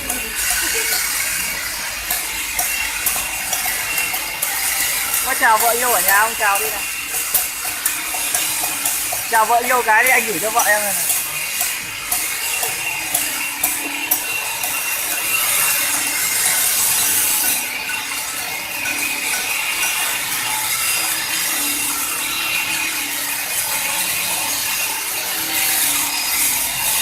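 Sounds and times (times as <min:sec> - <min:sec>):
stone carving machine grinding: 0:00.0 - 0:27.0.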